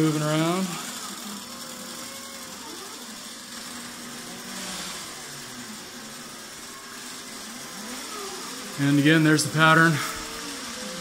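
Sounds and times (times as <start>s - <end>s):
mechanical hum: 0.0s - 11.0s
stepper motors whining: 0.0s - 11.0s.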